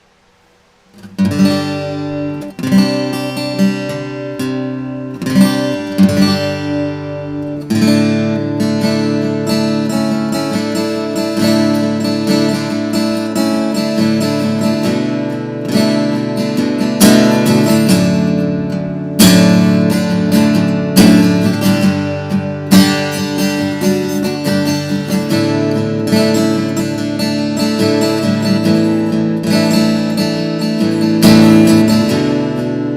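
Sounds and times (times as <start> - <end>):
acoustic guitar chords strummed: 0.0 - 32.9.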